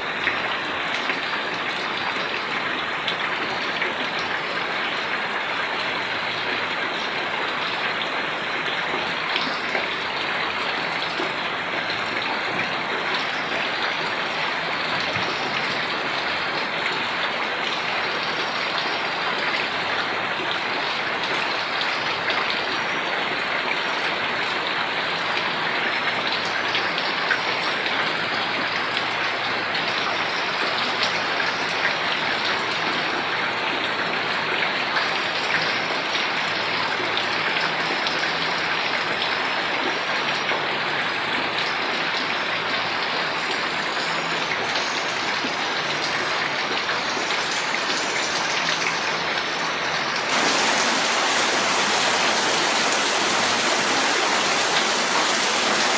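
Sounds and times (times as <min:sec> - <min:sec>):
heavy rain on roofs: 0:00.0 - 0:55.9
rain running off eaves: 0:00.0 - 0:55.9.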